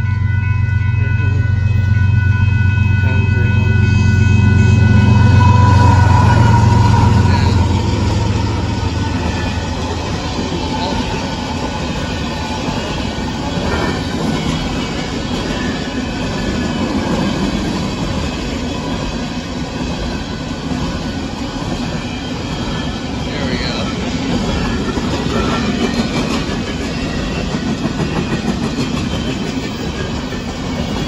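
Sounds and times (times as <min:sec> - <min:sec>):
diesel locomotive hum: 0:00.0 - 0:31.0
train wheels rumbling on rails: 0:00.0 - 0:31.0.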